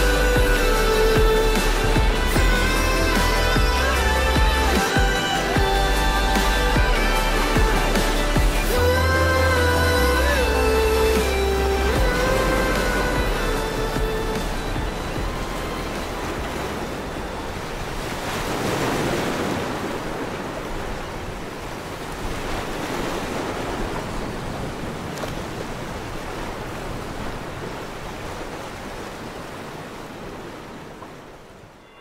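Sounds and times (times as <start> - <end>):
waves breaking: 0.0 - 32.0.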